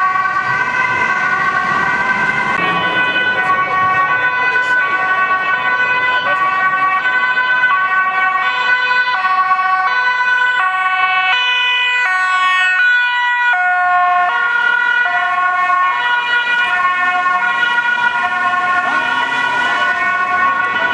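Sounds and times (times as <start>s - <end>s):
two-tone ambulance siren: 0.0s - 20.9s.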